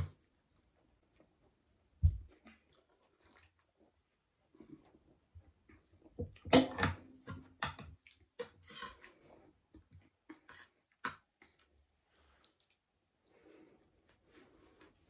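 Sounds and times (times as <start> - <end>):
soft chewing: 0.0 - 6.2, 7.9 - 15.0.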